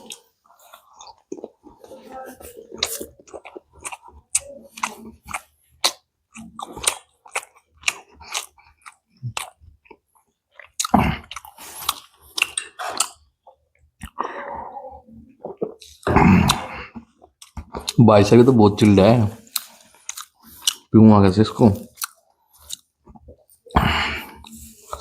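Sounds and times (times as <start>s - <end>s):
chewing and biting food: 0.0s - 14.4s, 15.2s - 18.0s, 18.8s - 20.9s, 21.8s - 25.0s.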